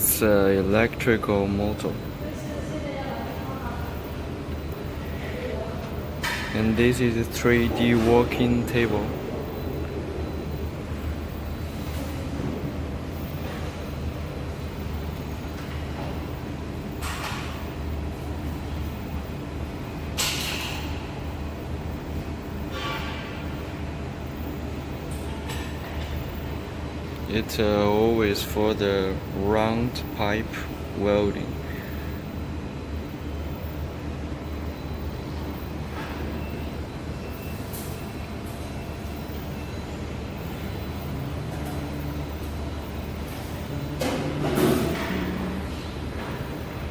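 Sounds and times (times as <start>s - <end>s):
low machinery hum: 0.0s - 46.9s.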